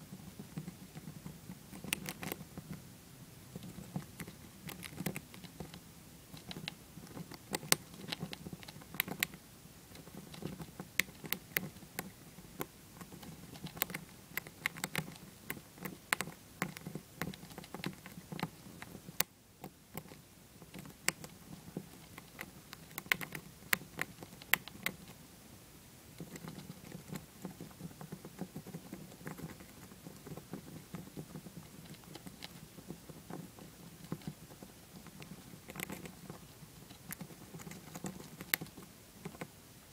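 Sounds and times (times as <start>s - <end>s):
hamster gnawing peanut: 0.0s - 39.9s.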